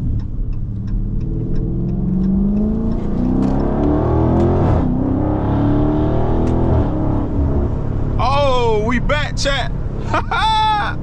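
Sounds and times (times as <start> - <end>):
car engine accelerating hard: 0.0 - 10.4.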